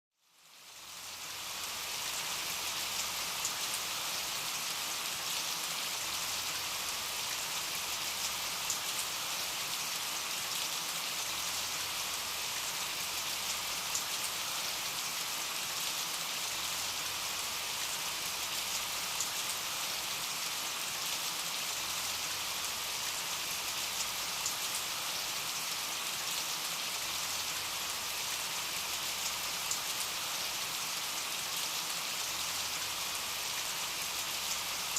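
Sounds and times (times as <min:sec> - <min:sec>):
steady rain hissing: 0:00.2 - 0:34.9.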